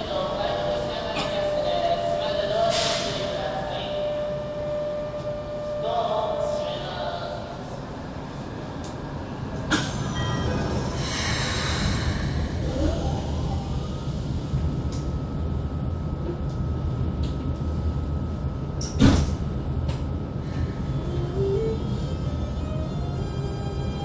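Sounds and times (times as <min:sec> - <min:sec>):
low hum inside train car: 0:00.0 - 0:24.0.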